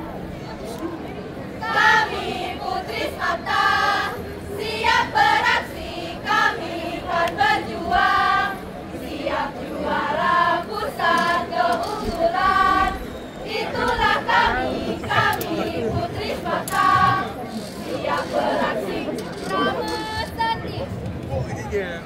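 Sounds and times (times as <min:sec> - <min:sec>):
girls singing in unison: 0:01.6 - 0:19.8.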